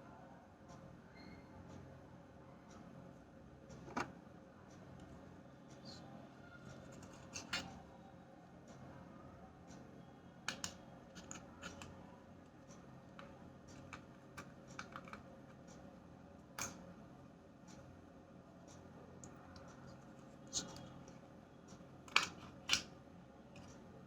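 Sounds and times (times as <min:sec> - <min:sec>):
low steady hum: 0:01.8 - 0:24.0.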